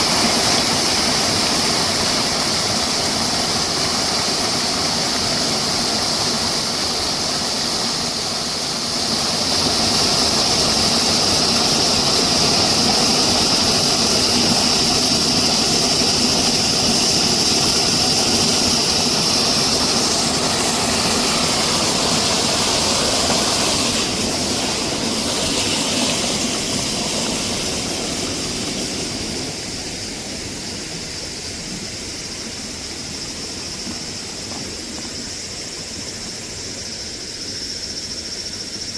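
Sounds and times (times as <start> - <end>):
stream water rushing: 0.0 - 36.2
cicadas droning: 0.0 - 38.9.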